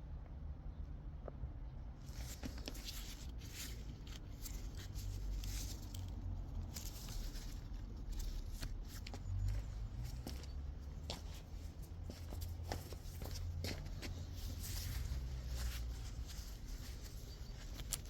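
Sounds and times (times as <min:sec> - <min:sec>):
rustling: 0:02.0 - 0:18.0.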